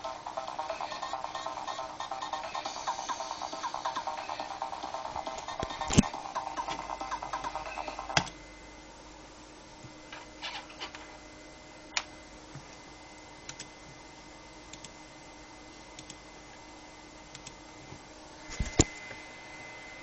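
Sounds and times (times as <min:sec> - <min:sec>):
computer hum: 0:00.0 - 0:20.0.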